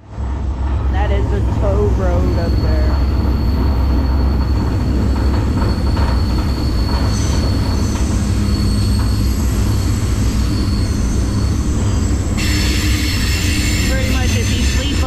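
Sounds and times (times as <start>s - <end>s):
freight train rumbling: 0.0s - 15.0s
high wheel squeal: 1.6s - 15.0s.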